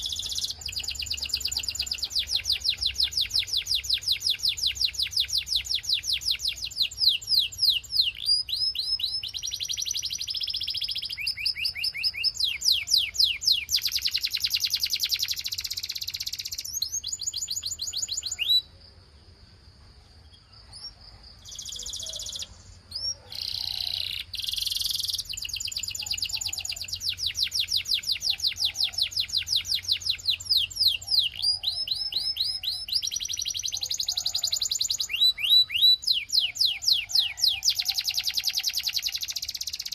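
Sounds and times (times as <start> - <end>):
canary singing trills: 0.0 - 18.8, 20.2 - 39.9.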